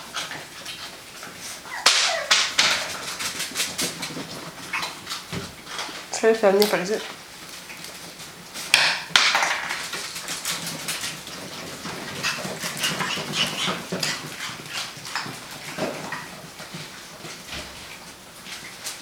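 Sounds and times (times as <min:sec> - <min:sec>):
puppy paws pattering on floor: 0:00.0 - 0:19.0.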